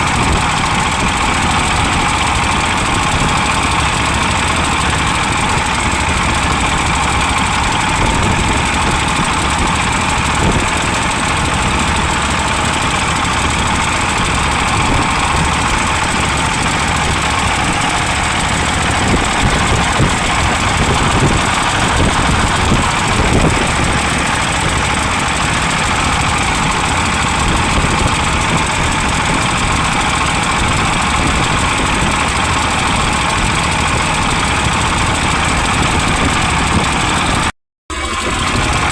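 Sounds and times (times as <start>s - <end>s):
vehicle engine running: 0.0s - 38.9s
wind buffeting microphone: 0.0s - 38.9s.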